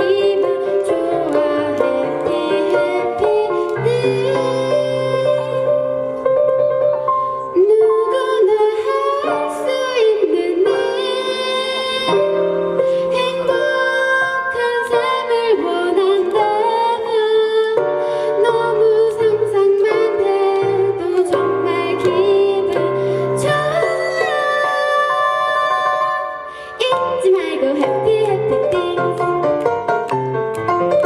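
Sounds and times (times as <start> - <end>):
woman singing pop melody: 0.0 - 5.9, 7.4 - 29.7
instrumental accompaniment: 0.0 - 31.0.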